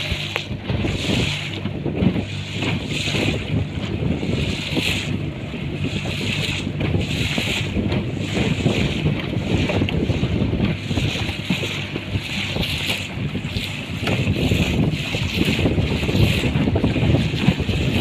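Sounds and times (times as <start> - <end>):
boat engine running: 0.0 - 18.0
water splashing against hull: 0.0 - 18.0
wind on microphone: 0.0 - 18.0.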